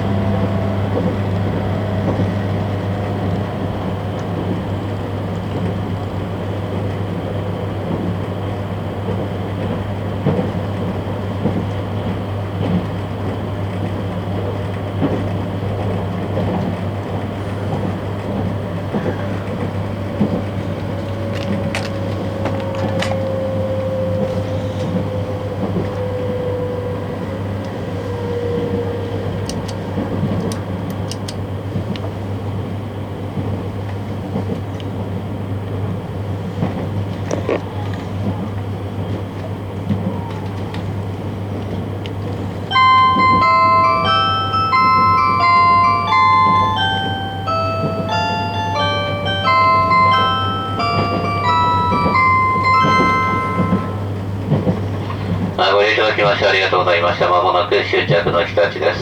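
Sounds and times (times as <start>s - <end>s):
electric train hum and rumble: 0.0s - 59.0s.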